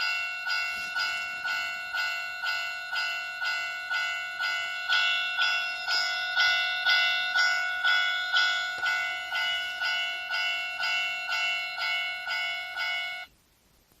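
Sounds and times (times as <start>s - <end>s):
level crossing warning bell: 0.0s - 13.3s.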